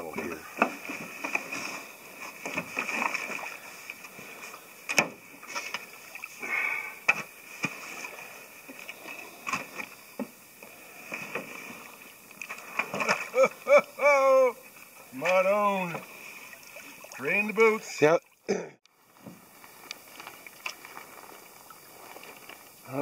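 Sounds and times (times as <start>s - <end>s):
water splashing and sloshing: 0.0s - 18.5s, 19.2s - 23.0s.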